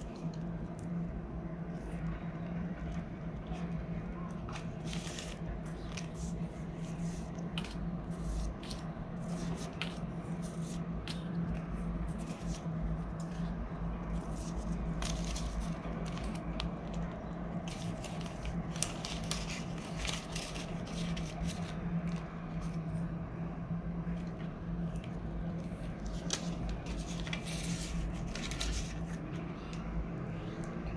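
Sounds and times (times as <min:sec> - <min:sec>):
steady low hum: 0:00.0 - 0:30.9
banknotes and plastic crinkling: 0:02.9 - 0:23.0, 0:24.1 - 0:29.9.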